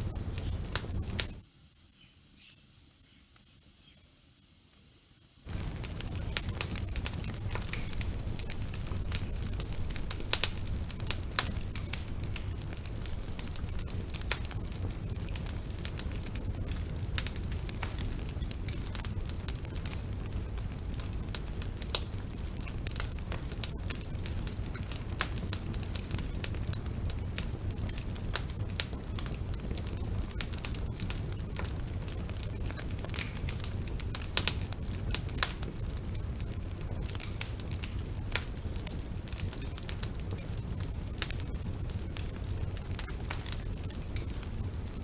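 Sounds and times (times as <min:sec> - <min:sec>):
wood fire crackling and popping: 0:00.0 - 0:01.4, 0:05.4 - 0:45.0.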